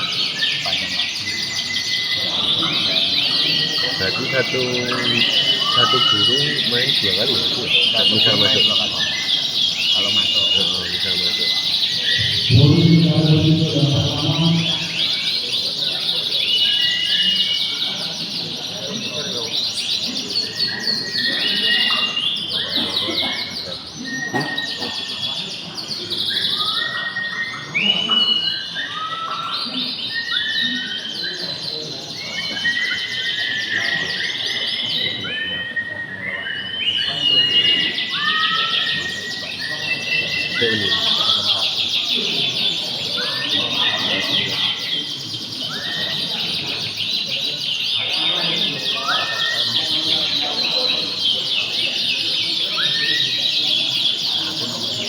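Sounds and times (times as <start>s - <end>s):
canaries singing: 0.0s - 55.0s
murmur of voices: 0.0s - 55.0s.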